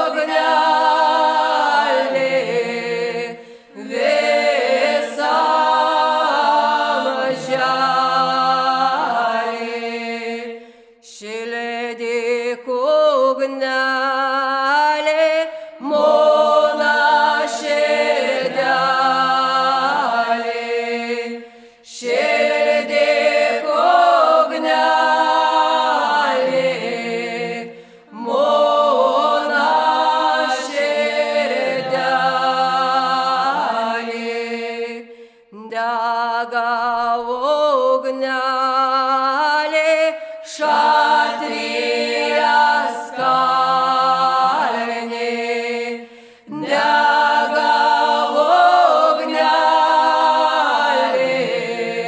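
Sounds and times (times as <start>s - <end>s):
group singing a cappella hymn: 0.0s - 52.0s.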